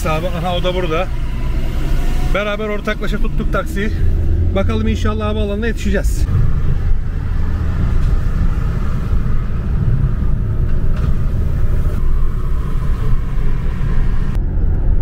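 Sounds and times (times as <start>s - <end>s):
engine and tyre noise in car: 0.0s - 15.0s.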